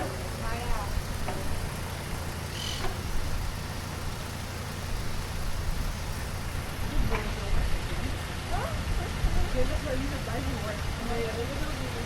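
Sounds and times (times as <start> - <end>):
bicycle rolling with wind noise: 0.0 - 12.0.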